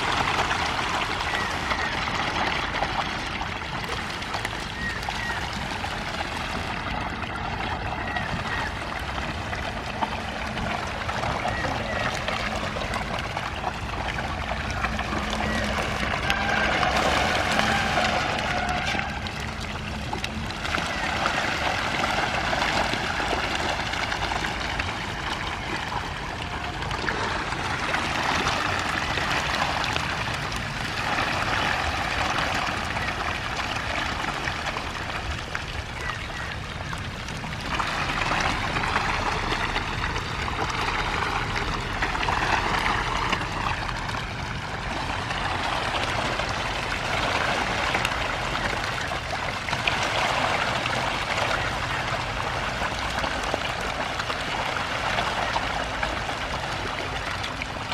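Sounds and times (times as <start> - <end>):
fish splashing and slurping: 0.0 - 57.9.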